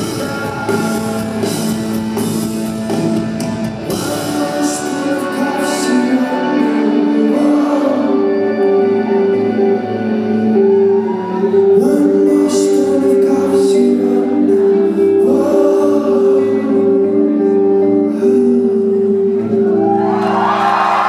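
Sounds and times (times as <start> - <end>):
lead vocal singing: 0.0 - 20.1
rock band playing live: 0.0 - 21.0.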